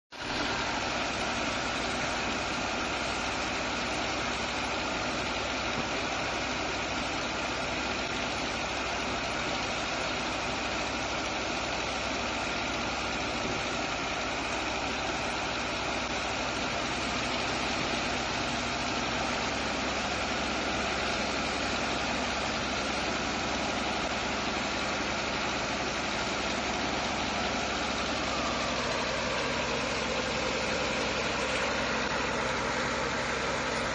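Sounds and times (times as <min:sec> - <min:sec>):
pump engine running: 0:00.1 - 0:33.9.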